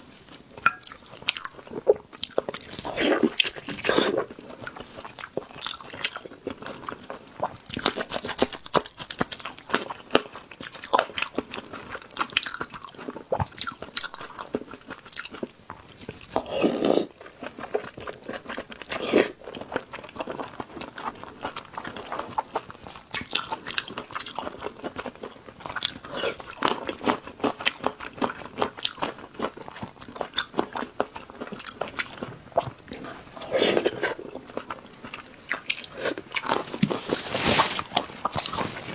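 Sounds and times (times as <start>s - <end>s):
chewing and biting food: 0.6s - 38.9s.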